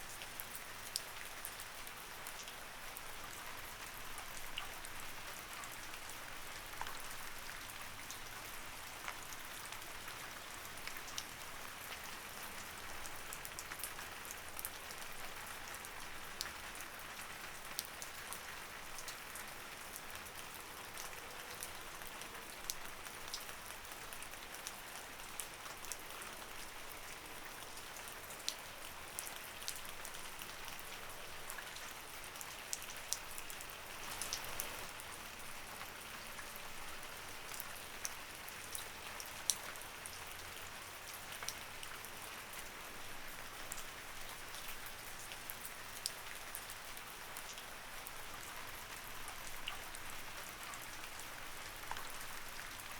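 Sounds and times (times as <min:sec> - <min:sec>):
light rain falling: 0:00.0 - 0:52.9
raindrops pattering on a surface: 0:00.0 - 0:52.9.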